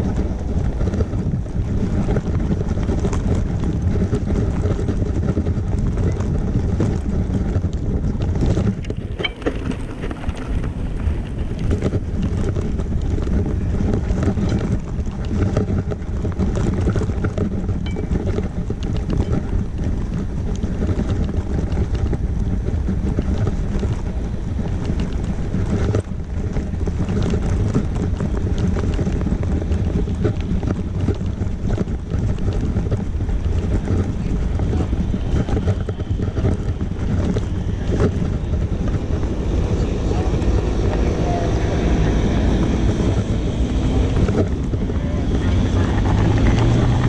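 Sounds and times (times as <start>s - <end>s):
electric vehicle rumbling: 0.0s - 47.0s
small rattles and knocks: 0.0s - 47.0s
wind buffeting microphone: 0.0s - 47.0s.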